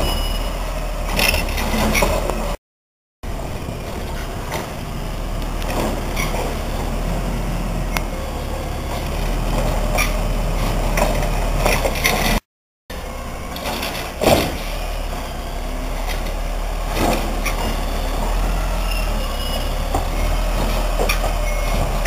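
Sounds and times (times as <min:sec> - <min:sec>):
garbage truck diesel engine: 0:00.0 - 0:02.6, 0:03.2 - 0:22.0.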